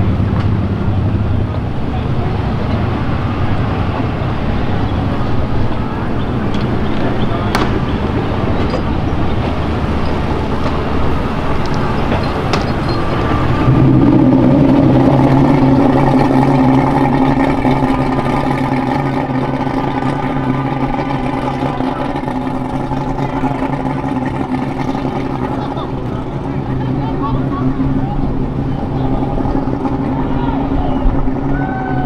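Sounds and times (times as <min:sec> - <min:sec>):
vehicle engine under load: 0:00.0 - 0:32.0.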